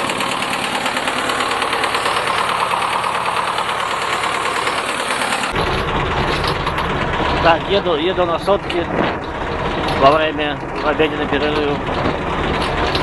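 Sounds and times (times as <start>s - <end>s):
diesel engine clattering: 0.0s - 13.0s
engine tapping: 0.0s - 13.0s.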